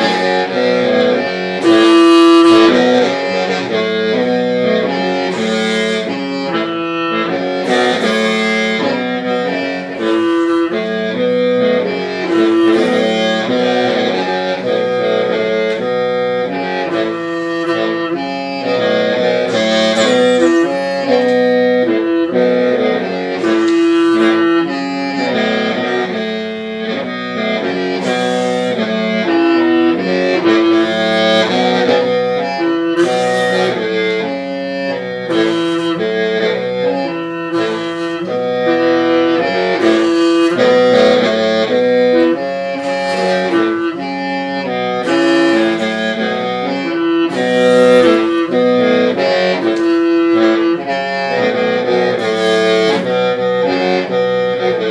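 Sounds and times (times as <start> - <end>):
breathy bursts: 0.0 - 54.4
bamboo mouth organ melody: 0.0 - 54.9.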